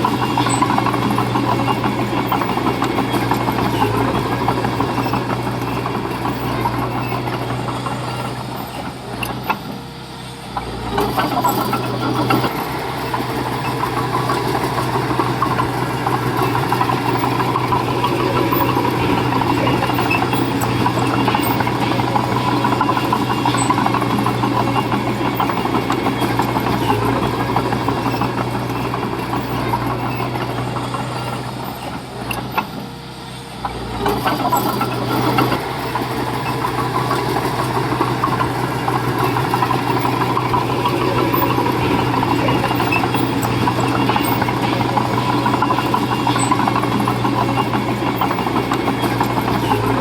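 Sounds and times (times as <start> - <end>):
diesel engine of heavy machinery: 0.0 - 50.0.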